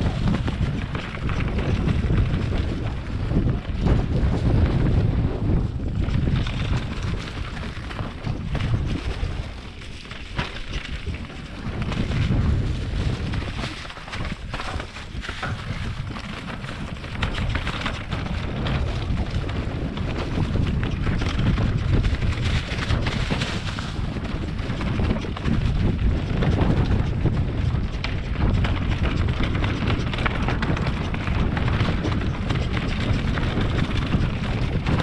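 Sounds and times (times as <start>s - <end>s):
bike tyres crunching over stones: 0.0s - 35.0s
wind buffeting microphone: 0.0s - 35.0s.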